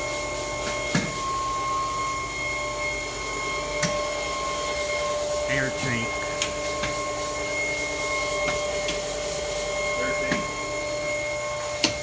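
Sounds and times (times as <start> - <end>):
machinery hum with whine: 0.0 - 12.0.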